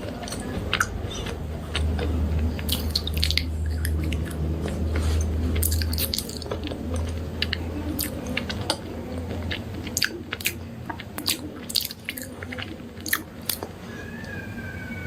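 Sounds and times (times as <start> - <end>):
crunching and chewing slate pencils: 0.0 - 13.8
low steady hum: 0.0 - 15.0.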